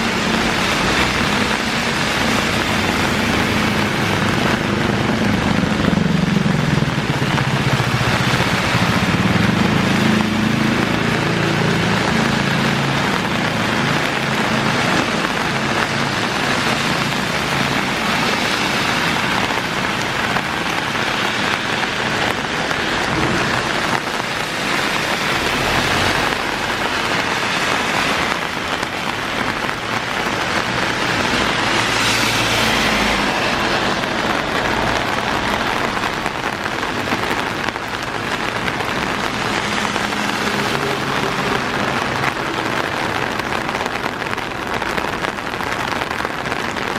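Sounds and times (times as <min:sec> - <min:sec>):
car tyres hissing on wet road: 0:00.0 - 0:46.9
heavy rain pouring: 0:00.0 - 0:46.9.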